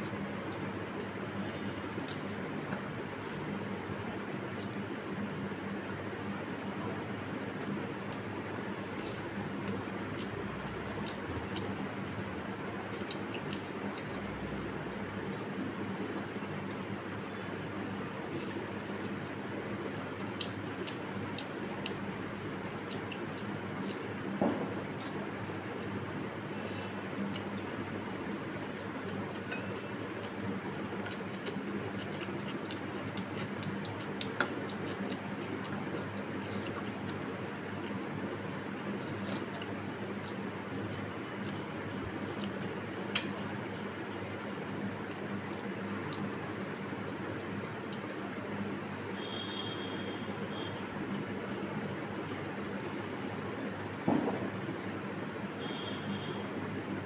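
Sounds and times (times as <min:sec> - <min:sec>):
wet chewing and eating sounds: 0:00.0 - 0:06.8, 0:07.4 - 0:17.1, 0:17.9 - 0:48.4
low background hum: 0:00.0 - 0:57.0.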